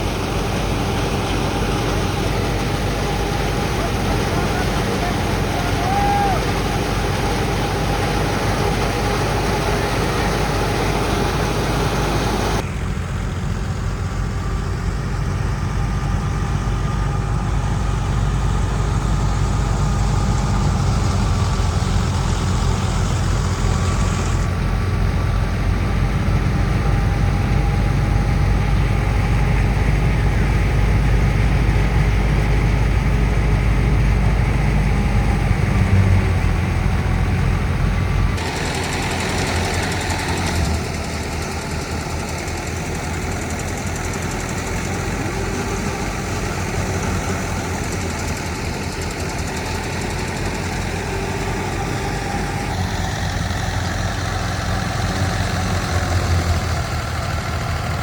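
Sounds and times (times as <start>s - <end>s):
heavy machinery engine rumbling: 0.0s - 58.0s.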